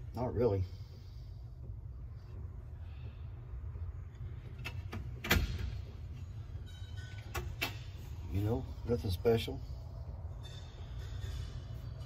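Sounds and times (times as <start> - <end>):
workshop low rumble: 0.0 - 12.0.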